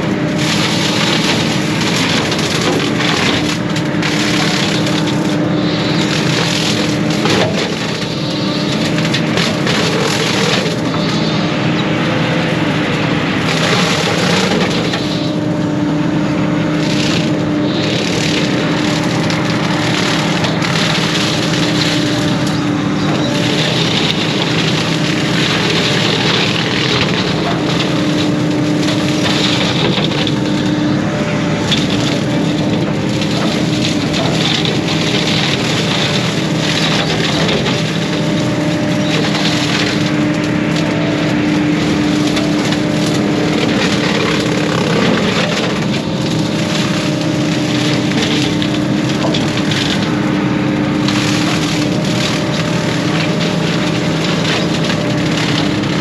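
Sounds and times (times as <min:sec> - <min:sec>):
brush and wood crackling and splintering: 0:00.0 - 0:15.8, 0:16.6 - 0:56.0
excavator running under load: 0:00.0 - 0:56.0.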